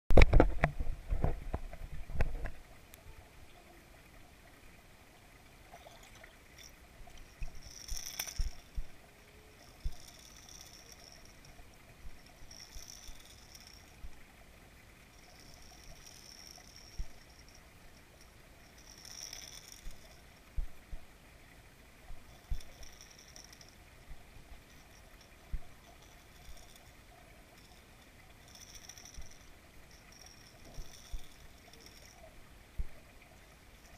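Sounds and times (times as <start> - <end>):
faint underwater sound: 0.1 - 33.9.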